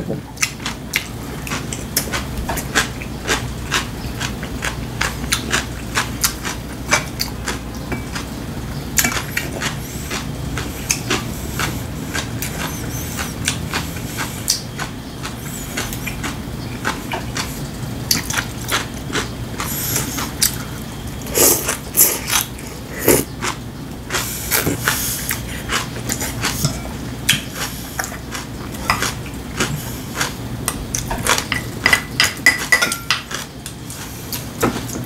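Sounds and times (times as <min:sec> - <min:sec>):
chewing crunchy vegetables: 0:00.0 - 0:35.0.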